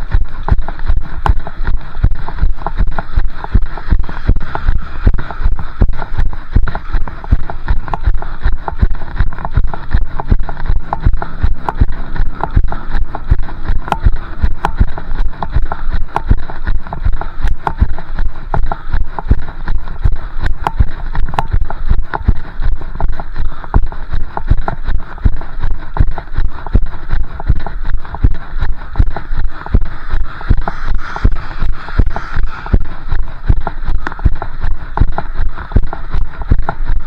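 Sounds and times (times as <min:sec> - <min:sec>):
wind rumble on microphone: 0:00.0 - 0:37.0.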